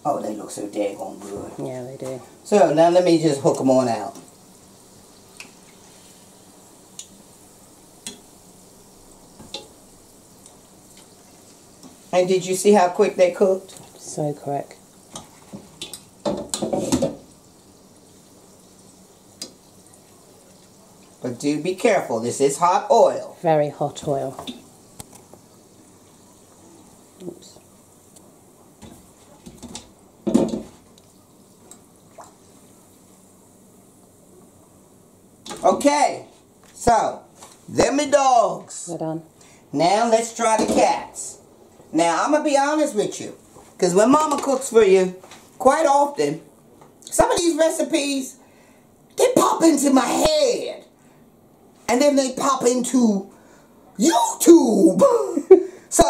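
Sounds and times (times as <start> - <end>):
deep-frying sizzle: 0.0 - 49.9.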